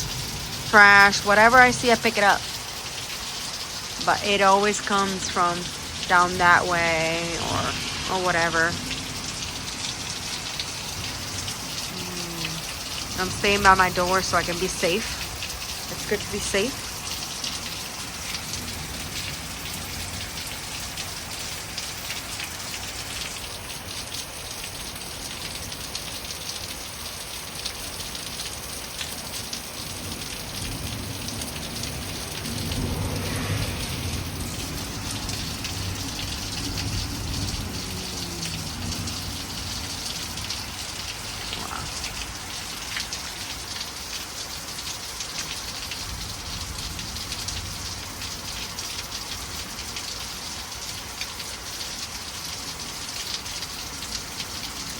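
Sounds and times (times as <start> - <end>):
heavy rain splashing on ground: 0.0 - 54.9.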